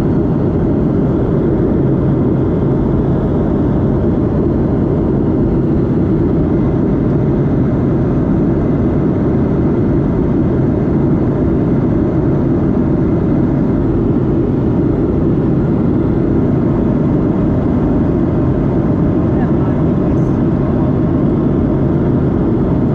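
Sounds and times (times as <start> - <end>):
airplane cabin engine rumble: 0.0 - 22.9.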